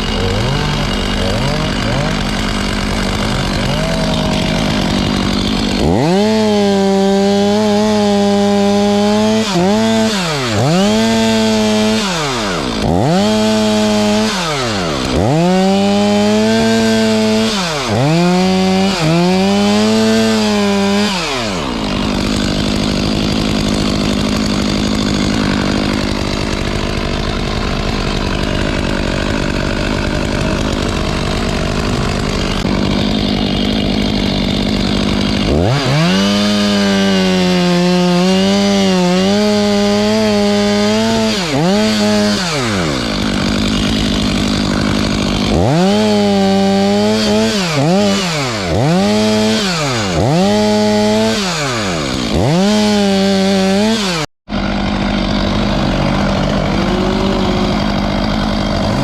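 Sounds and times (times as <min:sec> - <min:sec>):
chainsaw revving and cutting wood: 0:00.0 - 0:59.0.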